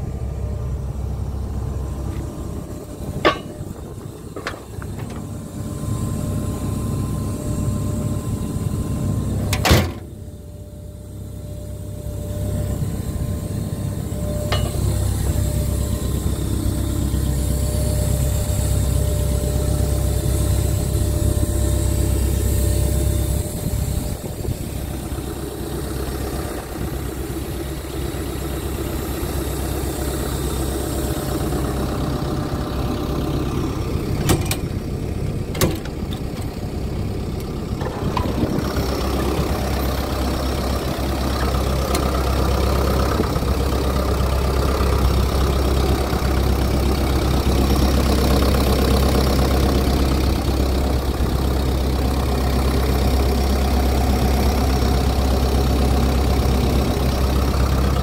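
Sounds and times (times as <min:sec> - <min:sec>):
excavator diesel engine idling: 0:00.0 - 0:58.0.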